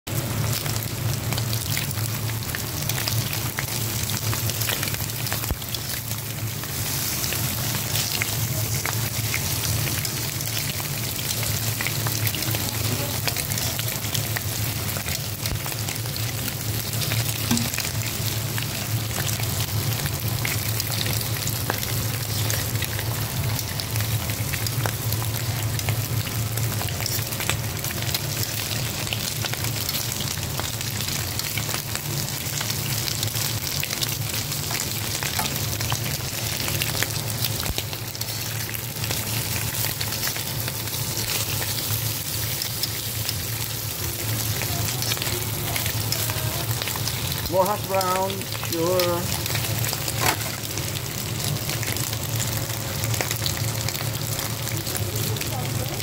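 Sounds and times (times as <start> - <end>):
bacon sizzling on a griddle: 0.1 - 56.0.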